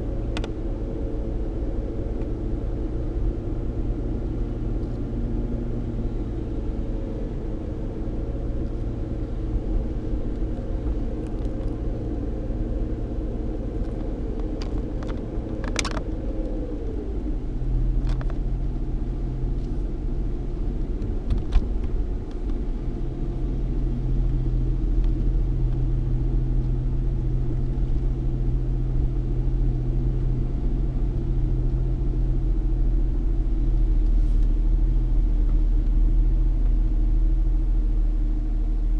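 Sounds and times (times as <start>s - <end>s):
car engine hum: 0.0s - 38.9s
car road rumble: 0.0s - 38.9s.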